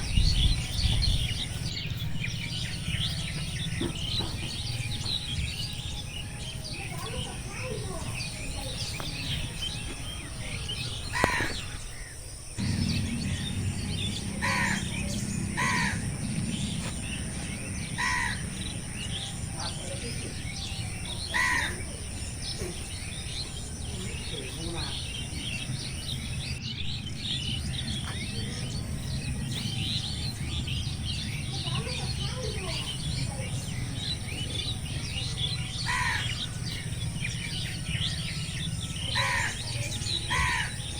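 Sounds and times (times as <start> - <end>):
birds chirping: 0.0 - 40.9
loud bird call: 0.0 - 40.9
steady low rumble: 0.0 - 40.9.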